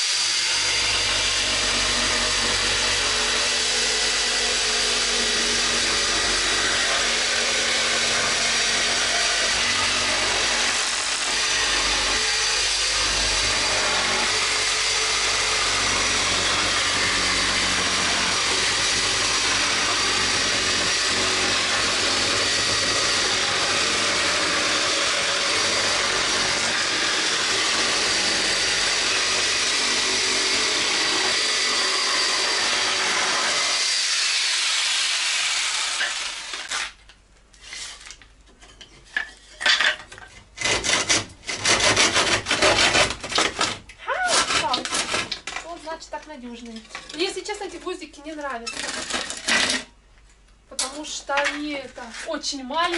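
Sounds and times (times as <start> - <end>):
electric jigsaw cutting wood: 0.0 - 37.0, 40.6 - 45.5, 48.8 - 49.9.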